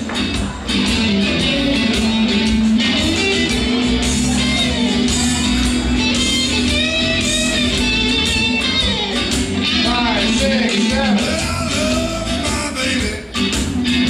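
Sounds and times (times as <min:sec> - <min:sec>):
blues guitar music: 0:00.0 - 0:14.0.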